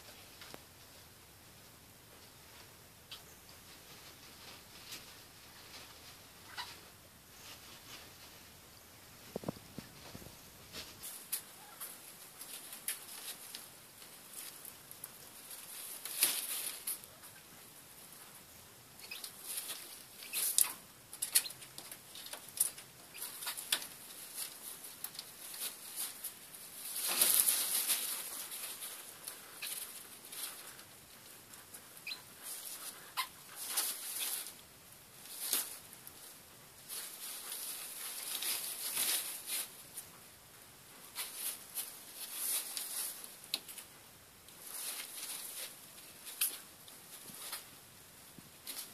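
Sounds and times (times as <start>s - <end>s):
rustling scramble: 0.0s - 48.9s.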